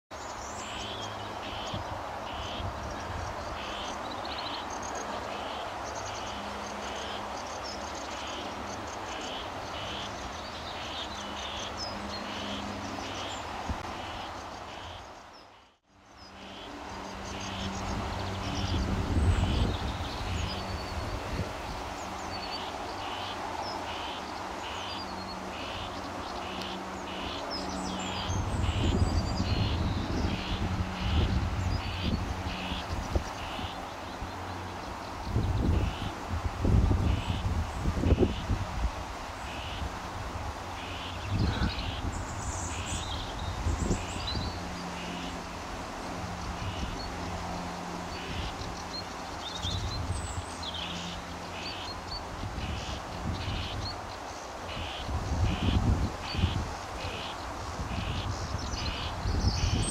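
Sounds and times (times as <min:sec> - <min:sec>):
outdoor background noise: 0:00.1 - 0:59.9
songbird singing: 0:00.1 - 0:59.9.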